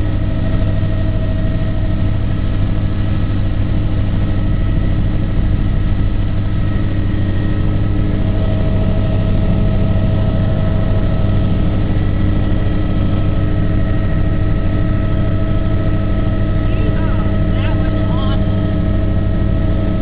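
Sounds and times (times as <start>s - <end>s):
aircraft engine droning: 0.0s - 20.0s.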